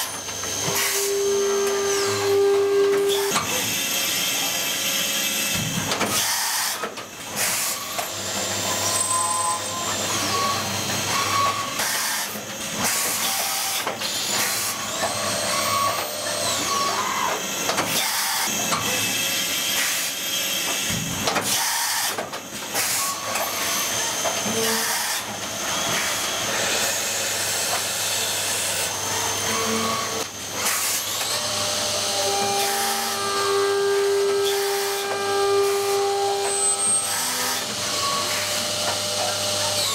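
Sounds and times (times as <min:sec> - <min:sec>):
machine spindles whining: 0:00.0 - 0:05.5, 0:06.1 - 0:20.9, 0:21.5 - 0:39.9.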